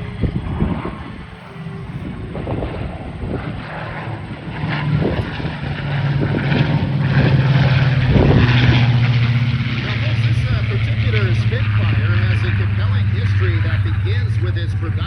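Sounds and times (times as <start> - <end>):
piston-engine aircraft drone: 0.0 - 15.0.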